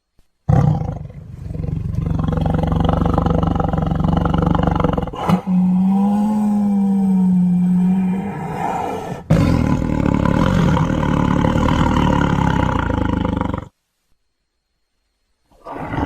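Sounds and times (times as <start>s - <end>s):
tiger roar: 0.5s - 13.8s, 15.6s - 16.0s.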